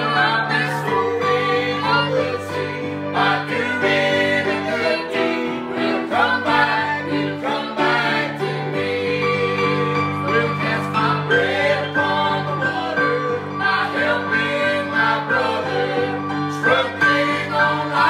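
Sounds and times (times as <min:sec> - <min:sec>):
grand piano: 0:00.0 - 0:18.0
group singing gospel song: 0:00.0 - 0:18.0.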